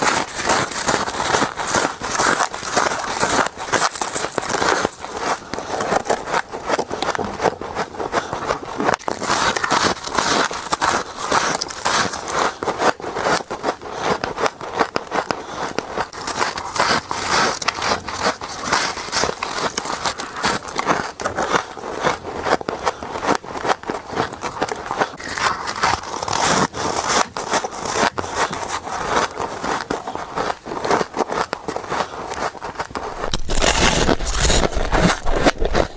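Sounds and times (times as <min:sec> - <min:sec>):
frost being chewed: 0:00.0 - 0:35.9.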